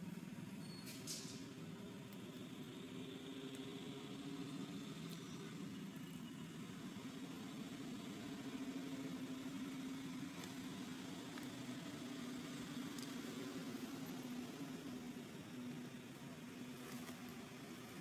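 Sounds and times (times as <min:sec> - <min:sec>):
faint engine idling: 0:00.0 - 0:18.0.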